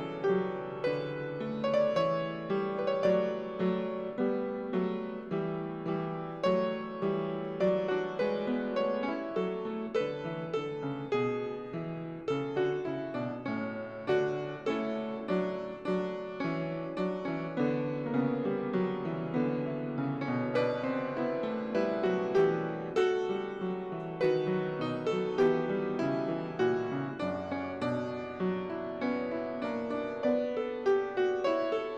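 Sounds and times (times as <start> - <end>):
solo piano: 0.0 - 31.9.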